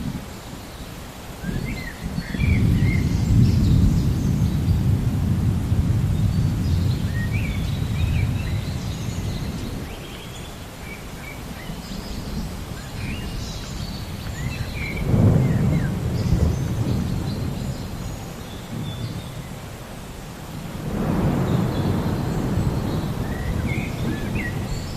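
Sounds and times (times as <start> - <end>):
small birds chirping: 0.3 - 5.0, 6.0 - 24.9
thunder rumbling: 1.4 - 10.0, 12.0 - 19.9, 20.5 - 24.9.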